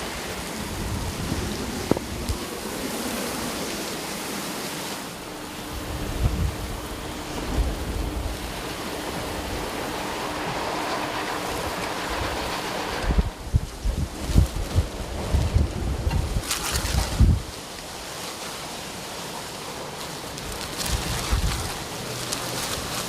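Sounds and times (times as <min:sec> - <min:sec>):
wind gusts thumping microphone: 0:00.0 - 0:18.2, 0:18.8 - 0:23.0
heavy rain: 0:00.0 - 0:23.0
hurricane wind: 0:00.0 - 0:23.0.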